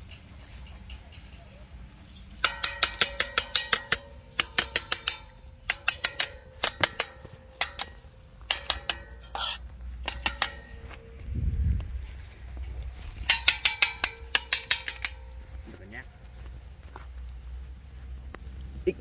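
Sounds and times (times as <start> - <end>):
steel bars rattling and clinking: 0.0 - 15.7.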